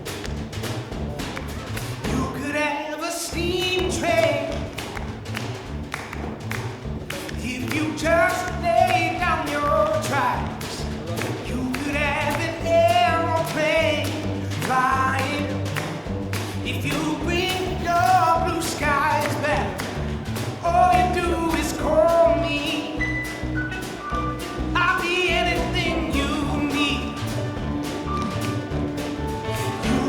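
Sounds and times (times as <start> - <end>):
pop song over loudspeakers: 2.0 - 5.0, 7.2 - 30.0
tap shoes clicking: 3.6 - 30.0.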